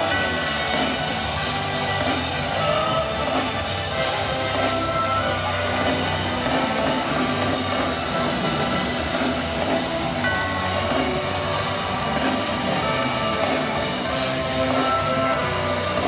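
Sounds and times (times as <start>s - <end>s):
amplified orchestra concert music: 0.0s - 16.0s
drums: 0.0s - 16.0s
guitar: 0.0s - 16.0s.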